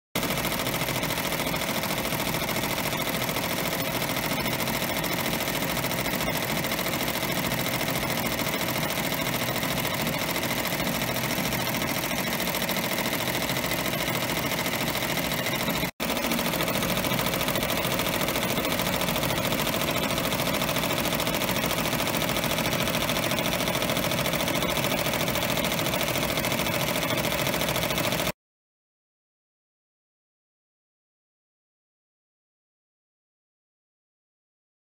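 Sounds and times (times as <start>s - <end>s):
embroidery machine stitching: 0.2s - 28.4s.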